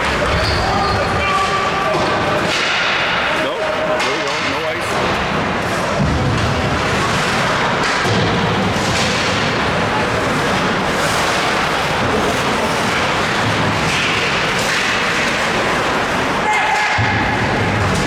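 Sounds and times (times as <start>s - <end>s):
crowd noise: 0.0s - 18.0s.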